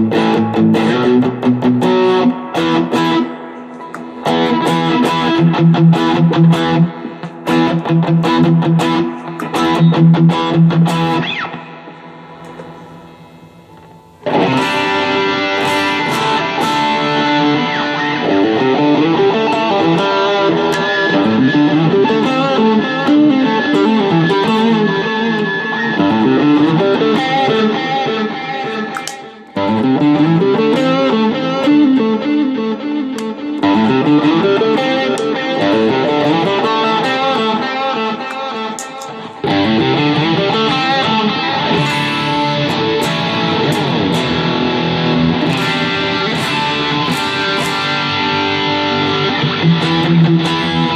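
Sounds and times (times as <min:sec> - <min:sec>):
electric guitar playing: 0:00.0 - 0:50.9.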